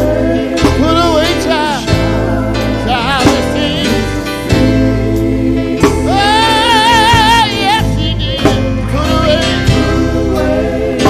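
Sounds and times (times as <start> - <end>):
live soul band playing: 0.0 - 11.0.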